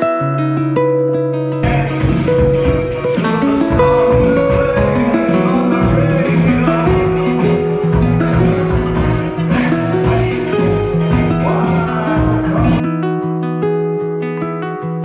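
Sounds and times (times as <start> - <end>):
guitar music with steady beat: 0.0 - 15.0.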